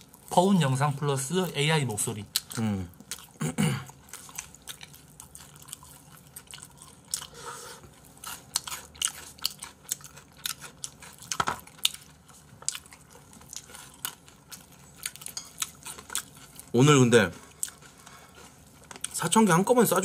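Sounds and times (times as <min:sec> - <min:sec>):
chewing and crunching food: 0:00.0 - 0:20.0.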